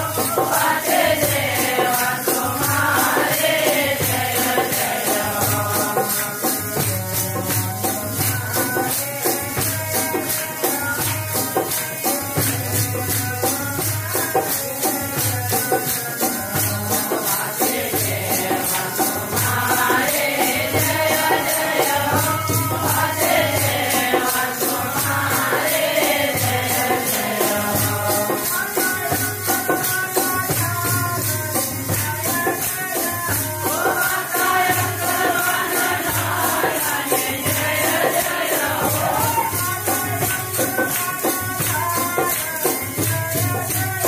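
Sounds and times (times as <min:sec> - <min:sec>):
group singing: 0:00.0 - 0:44.0
jingling hand percussion: 0:00.0 - 0:44.0.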